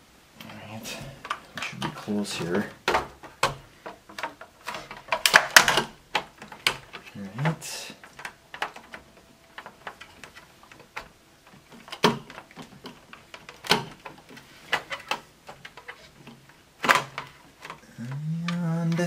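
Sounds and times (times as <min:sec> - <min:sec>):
plastic parts clicking: 0:01.2 - 0:19.0
sharp plastic snaps: 0:01.2 - 0:19.0.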